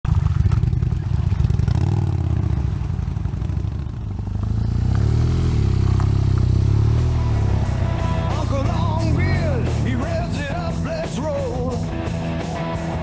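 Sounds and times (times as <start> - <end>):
motorcycle engine revving: 0.1 - 13.0.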